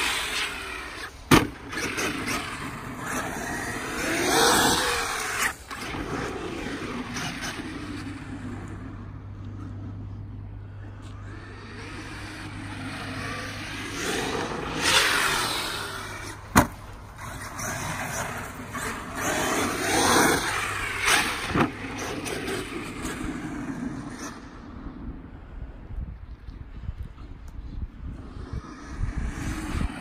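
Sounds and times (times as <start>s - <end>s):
rc car motor whining: 0.0s - 24.5s.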